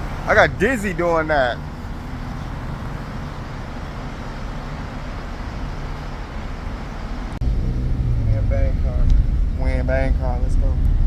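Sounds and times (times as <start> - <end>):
city road traffic rumble: 0.0 - 11.0
close engine rumble: 0.0 - 11.0.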